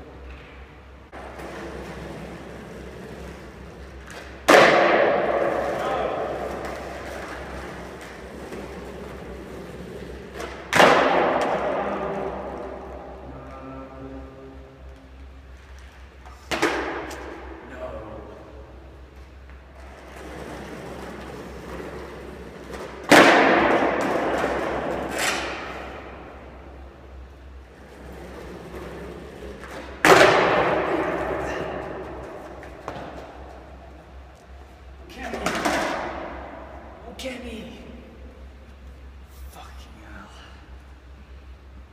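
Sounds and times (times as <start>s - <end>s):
skateboard wheels rolling on concrete: 0.0s - 13.4s, 14.8s - 17.6s, 19.0s - 36.9s.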